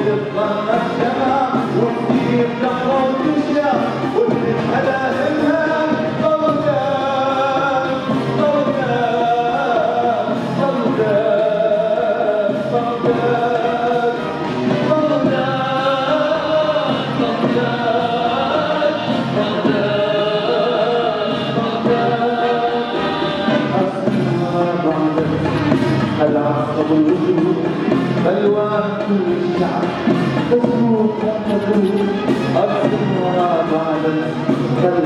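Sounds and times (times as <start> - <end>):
choir singing: 0.0 - 26.5, 30.6 - 35.0
symphony orchestra playing: 0.0 - 35.0.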